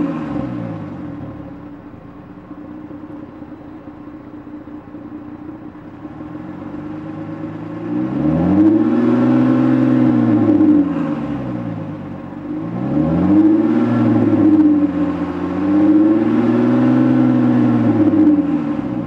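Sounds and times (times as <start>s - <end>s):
car exhaust humming and revving: 0.0s - 19.0s.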